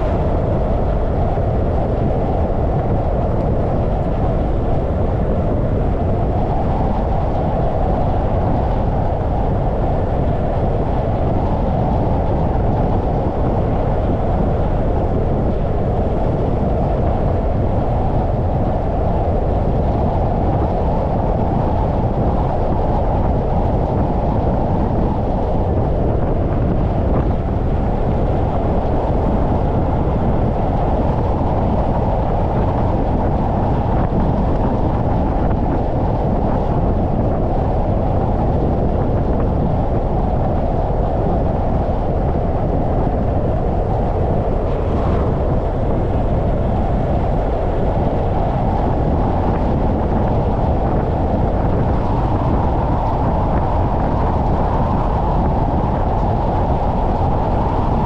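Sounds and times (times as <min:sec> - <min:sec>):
wind and road noise rumble: 0:00.0 - 0:58.0.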